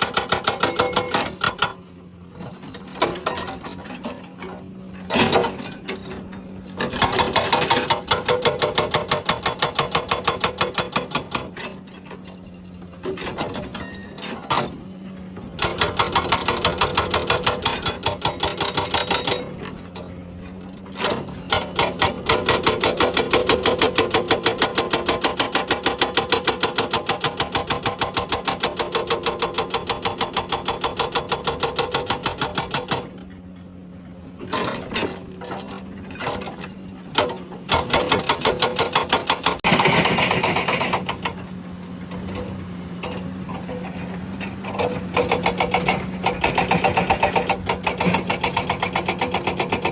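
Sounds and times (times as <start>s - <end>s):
hydraulic rock breaker hammering: 0.0s - 49.9s.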